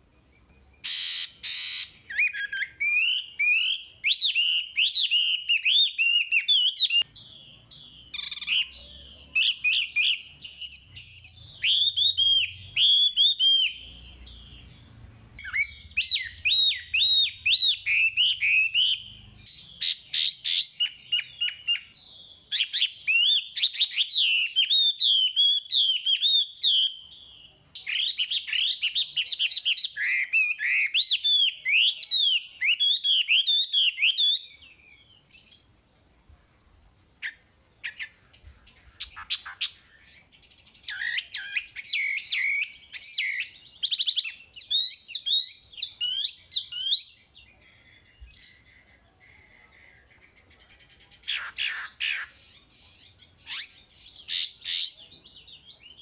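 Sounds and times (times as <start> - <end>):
bird singing whistled notes: 0.0 - 35.8, 36.6 - 56.0.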